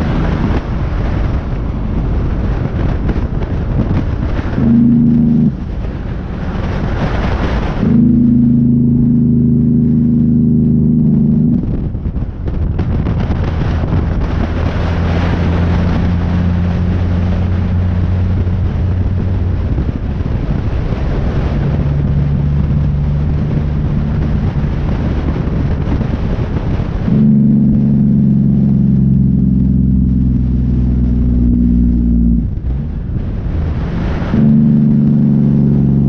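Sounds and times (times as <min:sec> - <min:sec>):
road and wind noise: 0:00.0 - 0:36.0
truck diesel engine drone: 0:00.0 - 0:36.0.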